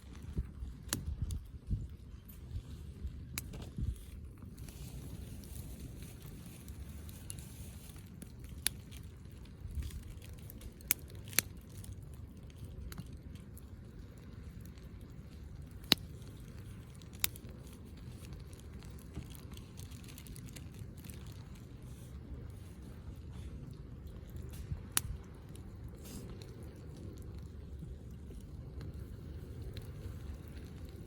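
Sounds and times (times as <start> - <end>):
campfire burning: 0.0 - 31.0
burning wood popping: 3.3 - 31.0.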